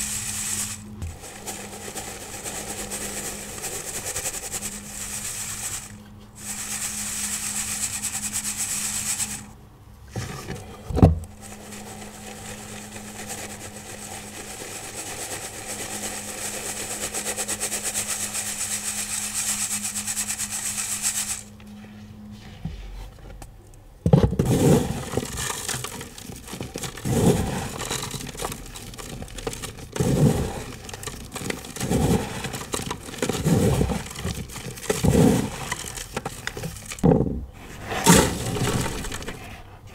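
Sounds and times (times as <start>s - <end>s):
pigment pebbles crunching: 0.0s - 9.4s, 11.3s - 21.4s, 24.4s - 39.7s
powder sifting hiss: 0.0s - 9.6s, 11.3s - 23.0s, 24.4s - 37.0s, 37.6s - 39.9s.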